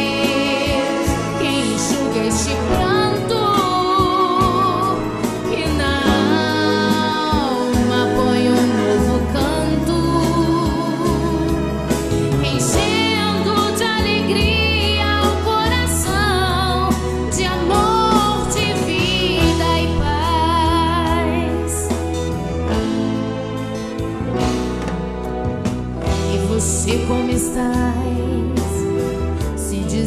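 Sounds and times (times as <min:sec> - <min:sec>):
lead melody with vibrato: 0:00.0 - 0:30.0
worship song band: 0:00.0 - 0:30.0.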